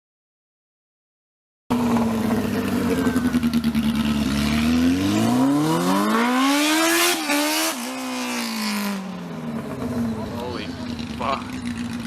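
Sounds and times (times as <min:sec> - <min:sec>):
motorcycle engine revving: 0:01.7 - 0:12.0.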